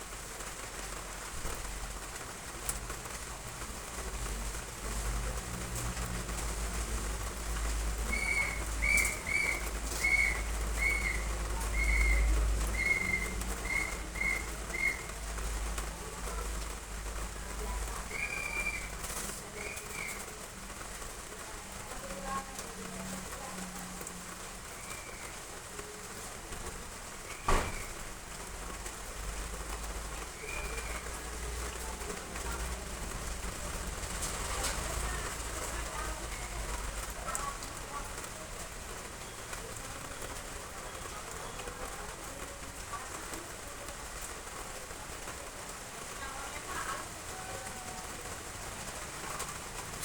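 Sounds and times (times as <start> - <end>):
heavy rain: 0.0 - 50.0.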